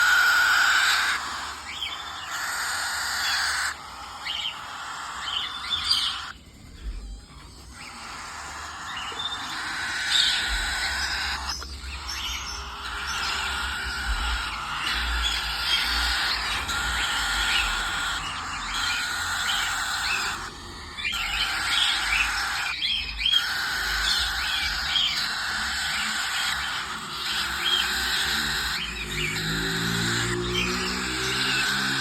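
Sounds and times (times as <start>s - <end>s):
parakeet chicks chattering: 0.0s - 32.0s.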